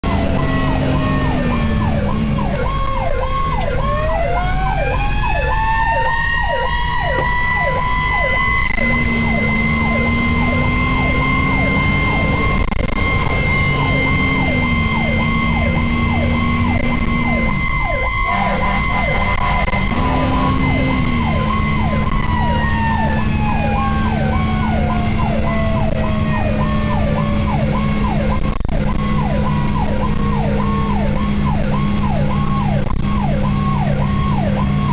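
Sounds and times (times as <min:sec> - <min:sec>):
electronic siren yelping: 0:00.0 - 0:34.9
fire engine engine: 0:00.0 - 0:34.9
mechanical siren wailing: 0:00.0 - 0:34.9.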